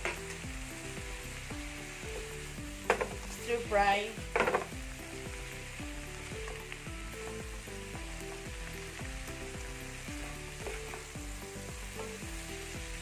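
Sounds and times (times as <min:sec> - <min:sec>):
background music: 0:00.0 - 0:13.0
cucumber sizzling in pan: 0:00.0 - 0:13.0.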